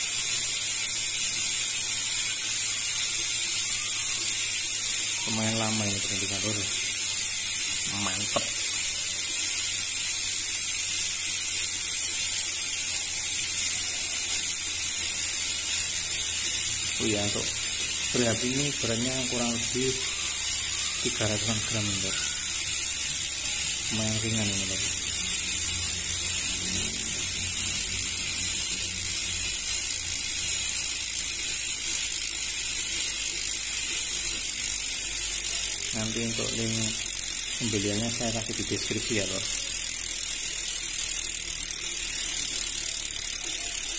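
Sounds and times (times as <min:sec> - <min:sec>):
bicycle freehub ratcheting buzz: 0:00.0 - 0:43.9.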